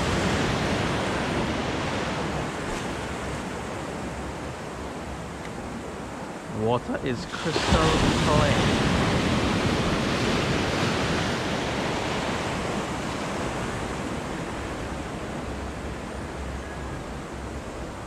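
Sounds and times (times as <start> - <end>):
small waves breaking on shore: 0.0 - 18.0.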